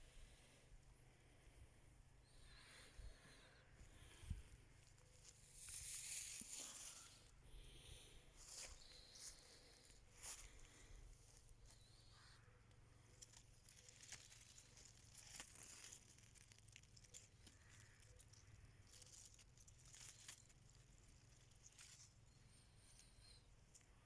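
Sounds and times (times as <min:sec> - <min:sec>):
faint rustling and crackling: 0:02.2 - 0:24.0.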